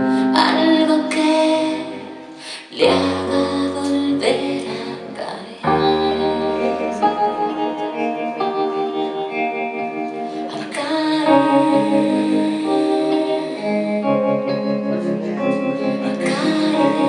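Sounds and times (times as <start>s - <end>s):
electric guitar: 0.0s - 17.0s
keyboard chords: 0.0s - 17.0s.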